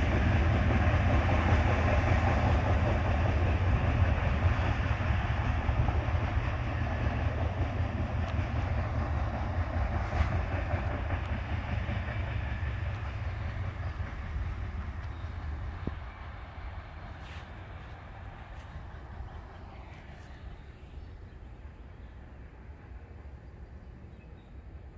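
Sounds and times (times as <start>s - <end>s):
freight train rumble: 0.0s - 24.9s.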